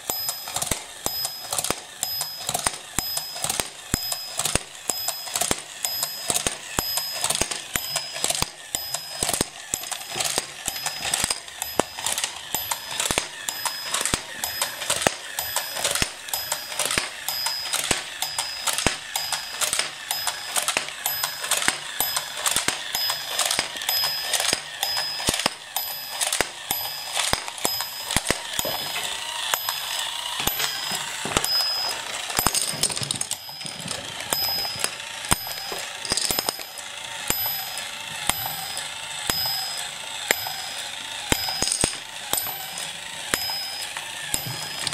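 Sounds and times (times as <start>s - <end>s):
dominoes clicking down: 0.0s - 44.9s
toy train motor whirring: 0.0s - 44.9s.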